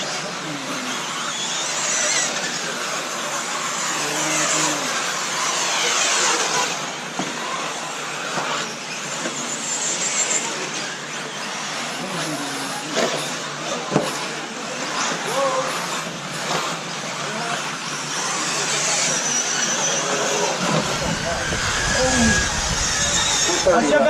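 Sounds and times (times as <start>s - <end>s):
rc buggy motors whining: 0.0s - 24.0s.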